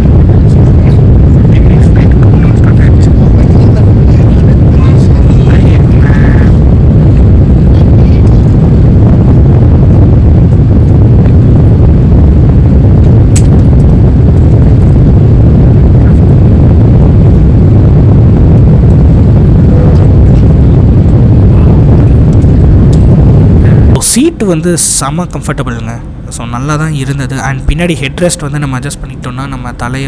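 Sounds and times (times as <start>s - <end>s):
airplane cabin engine noise: 0.0s - 30.0s.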